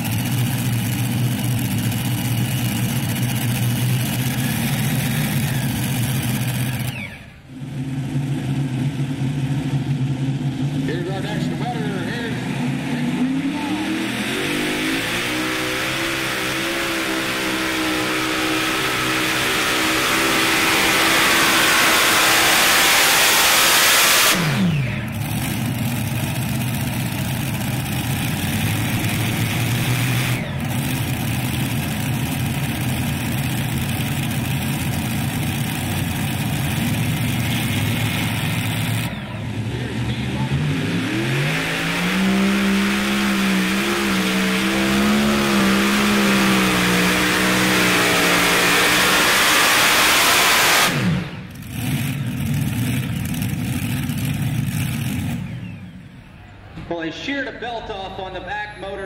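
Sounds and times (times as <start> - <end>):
pulling tractor engine at full throttle: 0.0 - 59.0
pulling tractor revving: 0.0 - 59.0.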